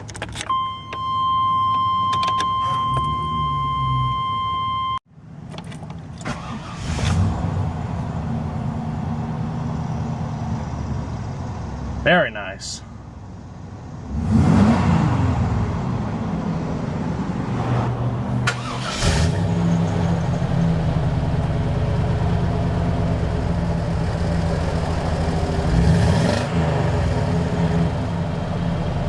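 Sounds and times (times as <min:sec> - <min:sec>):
truck engine starting and idling: 0:00.0 - 0:17.4, 0:18.1 - 0:29.0.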